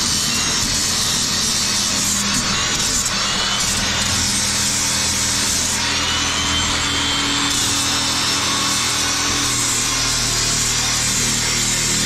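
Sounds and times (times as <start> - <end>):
angle grinder sanding wood: 0.0 - 12.0.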